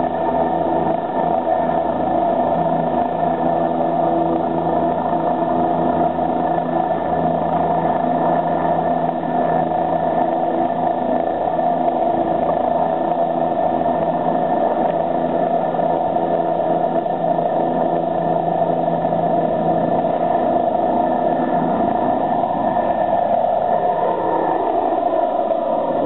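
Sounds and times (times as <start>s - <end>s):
helicopter rotor noise: 0.0s - 26.0s
helicopter turbine whine: 0.0s - 26.0s
low hum: 0.0s - 26.0s.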